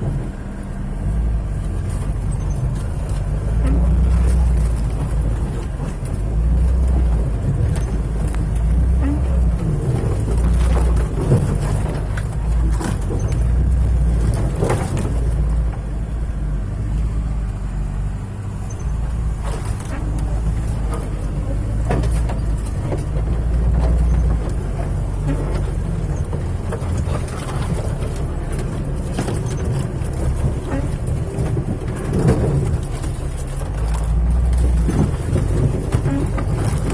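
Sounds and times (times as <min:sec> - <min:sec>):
vehicle engine low rumble: 0:00.0 - 0:36.9
knocks and rattles: 0:01.5 - 0:16.2, 0:18.6 - 0:36.9.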